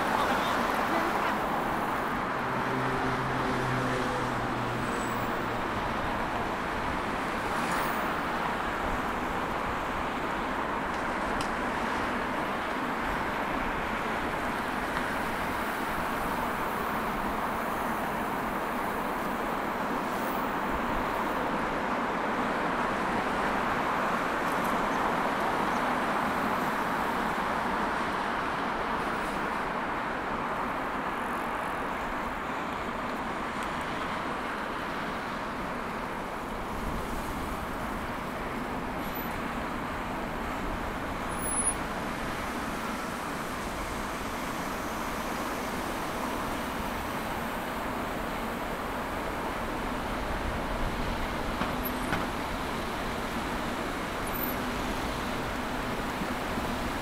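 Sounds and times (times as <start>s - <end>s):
busy road traffic: 0.0s - 57.0s.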